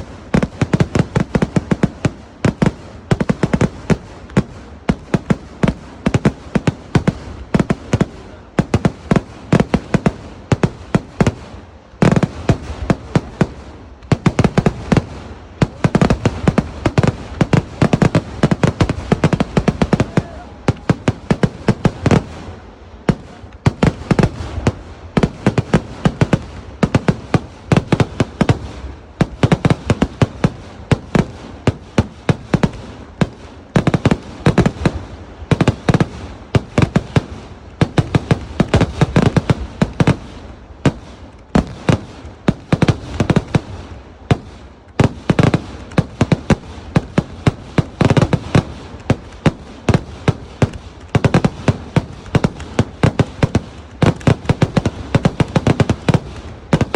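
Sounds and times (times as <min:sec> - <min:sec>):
continuous rumble: 0:00.0 - 0:56.9
firecracker bangs: 0:00.0 - 0:56.9.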